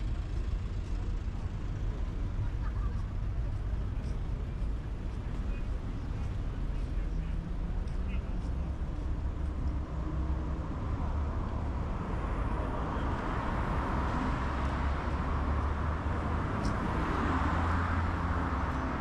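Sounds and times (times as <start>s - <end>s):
cars passing on busy street: 0.0s - 19.0s.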